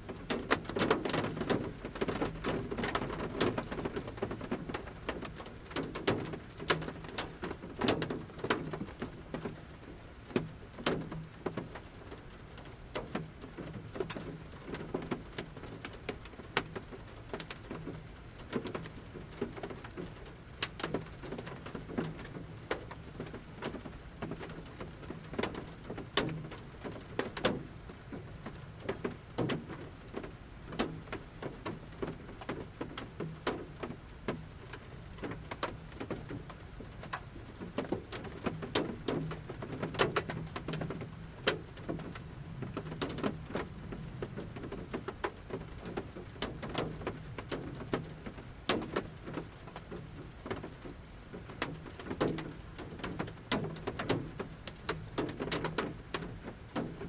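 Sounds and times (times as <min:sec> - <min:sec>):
raindrops pattering on metal roof: 0:00.0 - 0:57.0.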